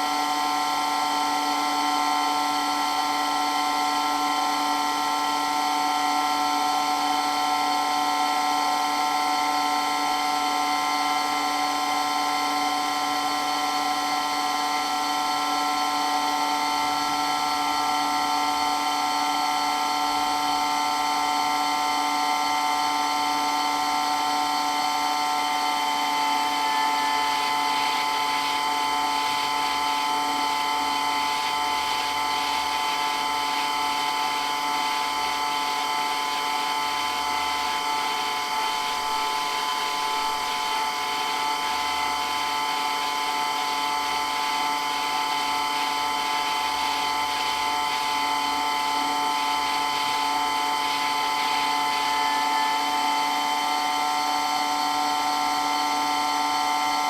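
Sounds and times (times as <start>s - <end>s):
water pump whining: 0.0s - 57.0s.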